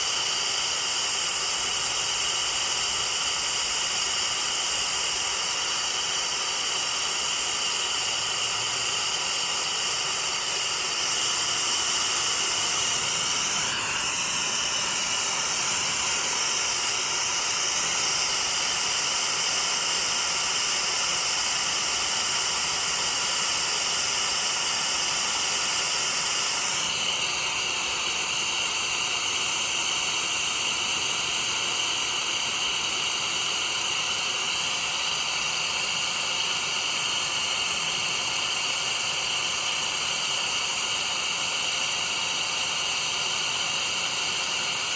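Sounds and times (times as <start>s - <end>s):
torch flame hissing: 0.0s - 44.9s.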